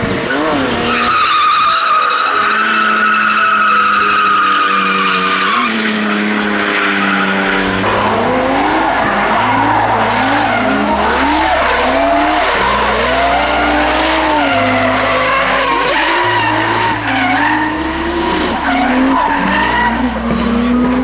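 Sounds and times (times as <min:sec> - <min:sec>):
car engines revving hard: 0:00.0 - 0:21.0
tyre screech: 0:00.3 - 0:20.9.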